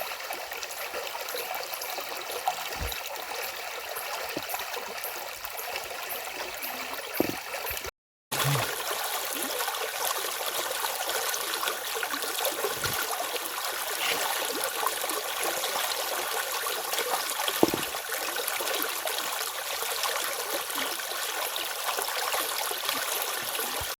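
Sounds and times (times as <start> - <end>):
stream water splashing over cascade: 0.0 - 24.0.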